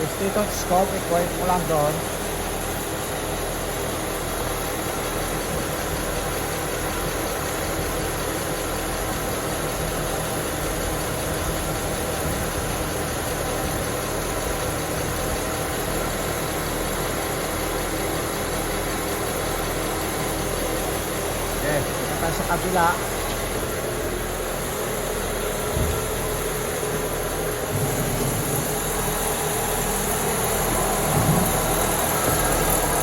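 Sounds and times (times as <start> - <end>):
car mechanical hum: 0.0 - 33.0.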